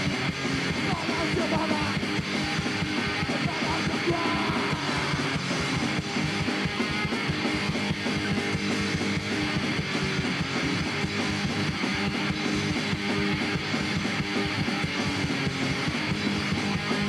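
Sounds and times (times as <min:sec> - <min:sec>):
electric guitar strummed hard: 0:00.0 - 0:17.0
punk rock band playing: 0:00.0 - 0:17.0.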